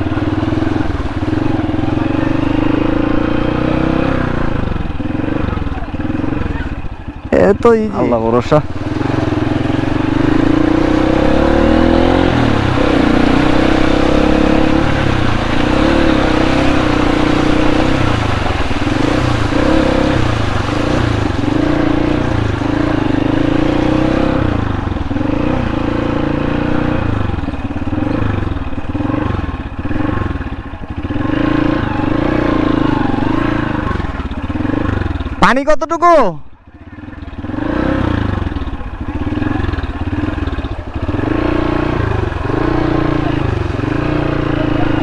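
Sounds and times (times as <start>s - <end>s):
motorcycle engine revving: 0.0s - 35.5s, 36.6s - 45.0s.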